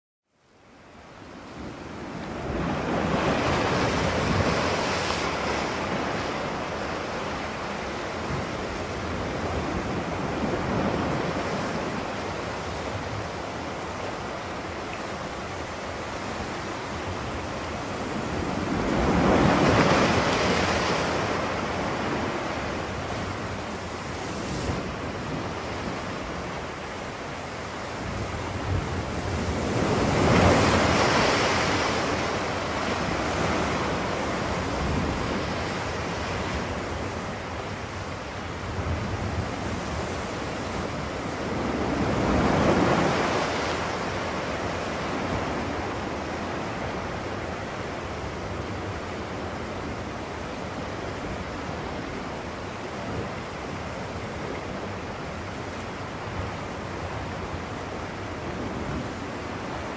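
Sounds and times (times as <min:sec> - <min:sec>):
surf rushing: 0:02.3 - 0:59.9.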